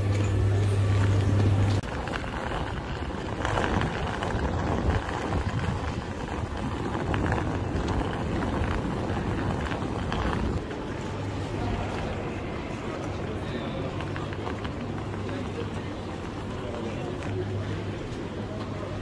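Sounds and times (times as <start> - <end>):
crowd noise: 0.0 - 19.0
suitcase wheels rolling on paving: 0.0 - 19.0
traffic rumble: 0.0 - 19.0.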